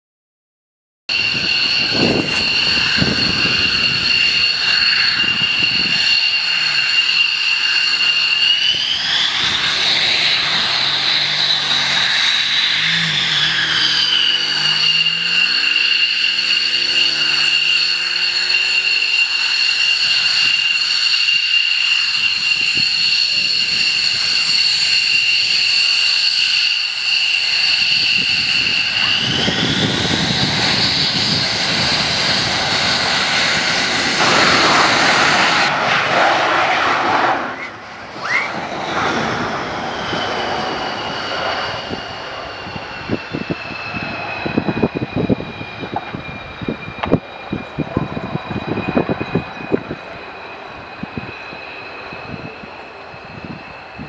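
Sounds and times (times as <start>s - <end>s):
jet engine whine: 1.1s - 54.0s
jet exhaust rush: 1.1s - 54.0s.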